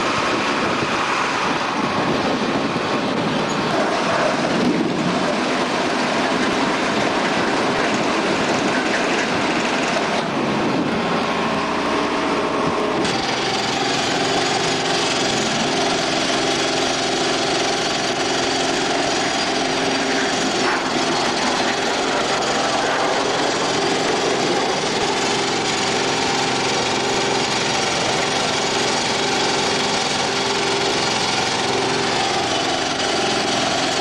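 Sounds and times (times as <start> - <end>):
engine running steadily: 0.0 - 34.0
machinery running: 0.0 - 34.0.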